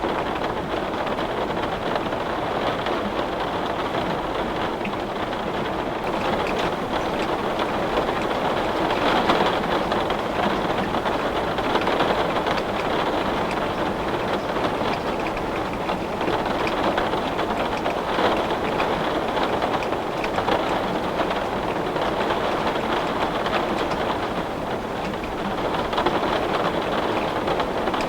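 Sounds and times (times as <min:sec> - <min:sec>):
heavy rain on a window: 0:00.0 - 0:28.0
raindrop ticks: 0:00.0 - 0:28.0.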